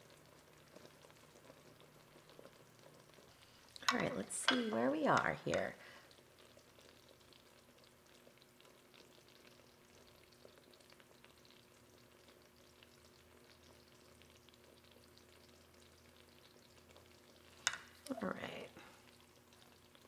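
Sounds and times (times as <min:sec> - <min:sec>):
boiling syrup bubbles popping: 0:00.0 - 0:20.0
faint steady hum: 0:00.0 - 0:20.0.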